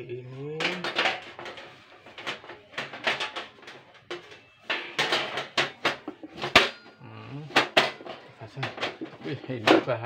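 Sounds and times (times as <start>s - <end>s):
clicks and clanks: 0.6s - 10.0s
metal stove parts clattering: 0.6s - 10.0s.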